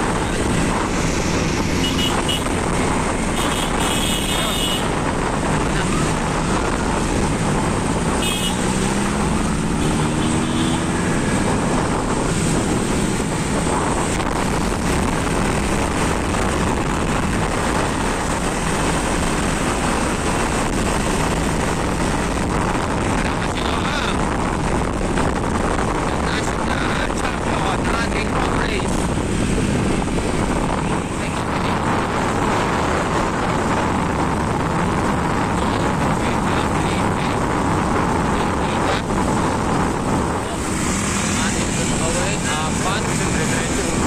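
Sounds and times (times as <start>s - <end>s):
wind buffeting microphone: 0.0s - 4.0s, 4.7s - 44.0s
road and traffic noise: 0.0s - 44.0s.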